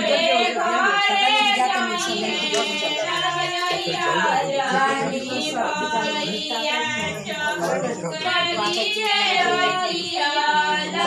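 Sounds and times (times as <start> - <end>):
women singing in unison: 0.0 - 11.0.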